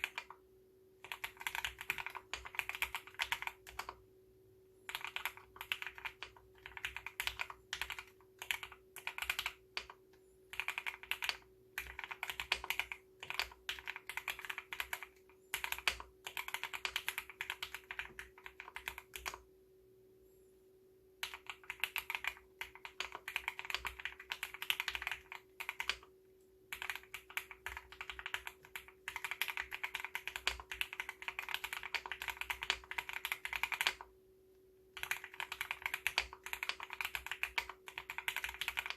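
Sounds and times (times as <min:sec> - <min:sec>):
mechanical keyboard typing: 0:00.0 - 0:00.4, 0:01.0 - 0:04.0, 0:04.9 - 0:19.4, 0:21.2 - 0:26.1, 0:26.7 - 0:34.1, 0:35.0 - 0:38.9.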